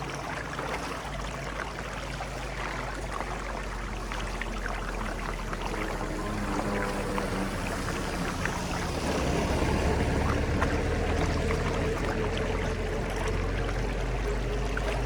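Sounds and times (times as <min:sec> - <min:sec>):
floodwater rushing down a drain: 0:00.0 - 0:15.0
small water splashes: 0:00.0 - 0:15.0.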